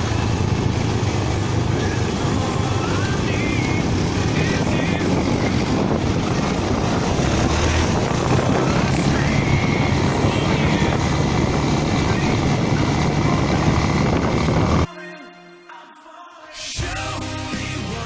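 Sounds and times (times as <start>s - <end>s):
motorcycle engine running: 0.0s - 14.9s
wind on microphone: 0.0s - 14.9s.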